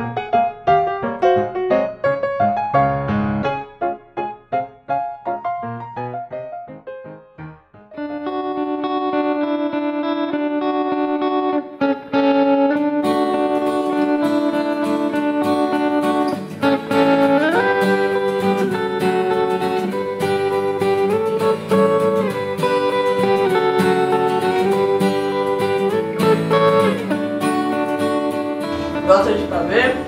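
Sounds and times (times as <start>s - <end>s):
plucked guitar with sliding notes: 0.0s - 4.3s, 7.9s - 30.0s.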